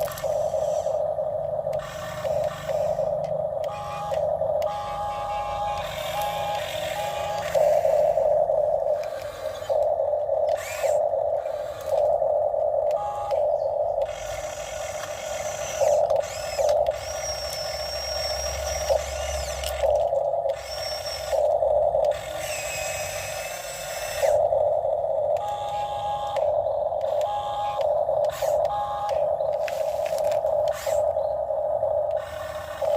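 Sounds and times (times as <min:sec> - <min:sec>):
toy excavator motor whine: 0:00.0 - 0:32.9.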